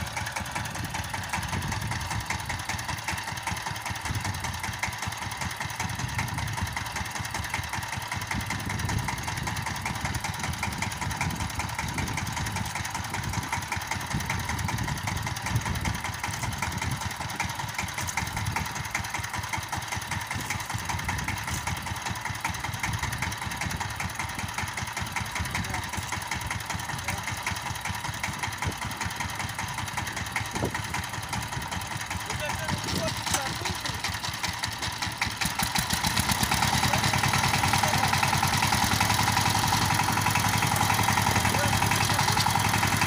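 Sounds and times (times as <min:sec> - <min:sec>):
diesel engine chugging: 0:00.0 - 0:43.0.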